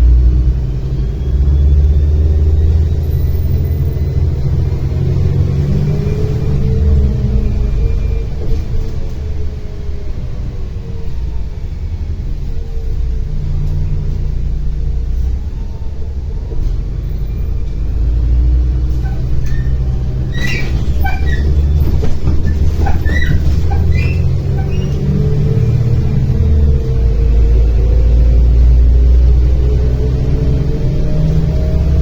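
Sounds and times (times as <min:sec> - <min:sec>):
bus body rattles and squeaks: 0:00.0 - 0:32.0
bus engine rumble and whine: 0:00.0 - 0:32.0.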